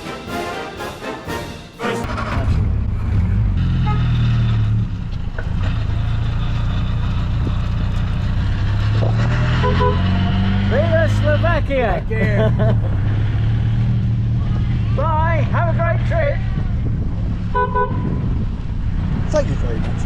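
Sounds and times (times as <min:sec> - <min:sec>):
road noise: 0:00.0 - 0:20.0
car engine drone: 0:02.0 - 0:20.0.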